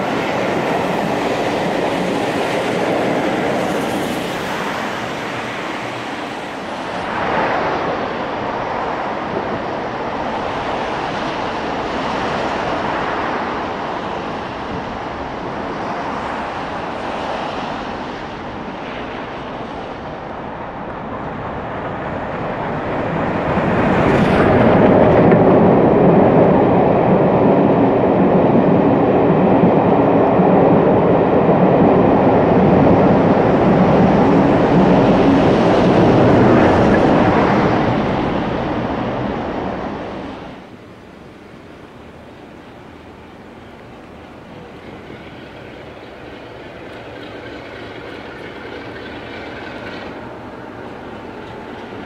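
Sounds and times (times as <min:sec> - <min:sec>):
train passing on rails: 0:00.0 - 0:52.0.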